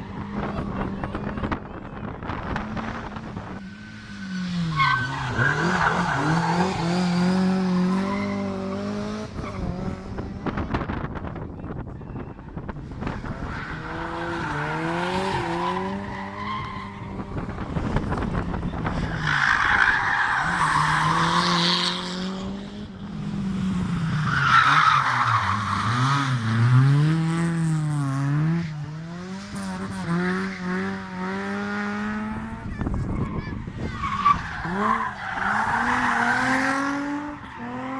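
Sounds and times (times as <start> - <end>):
rally car engine revving: 0.0 - 37.9.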